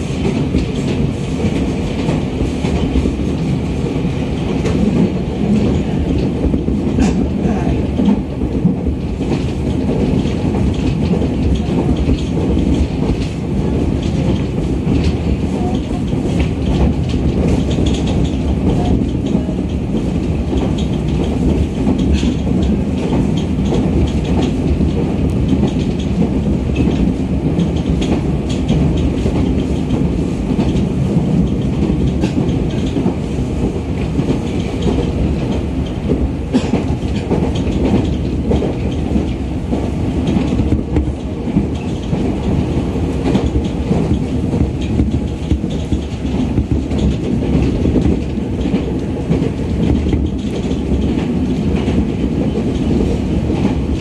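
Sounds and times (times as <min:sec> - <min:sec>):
train wheels rumbling on rails: 0:00.0 - 0:54.0
wheels clicking over rail joints: 0:04.4 - 0:54.0.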